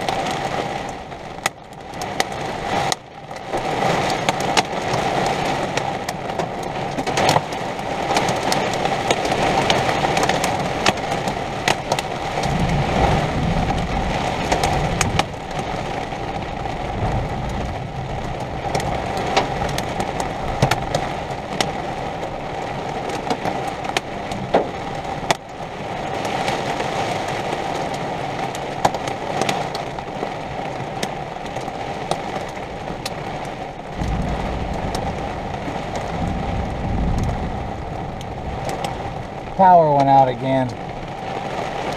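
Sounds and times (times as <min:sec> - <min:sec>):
heavy rain hissing: 0:02.4 - 0:41.9.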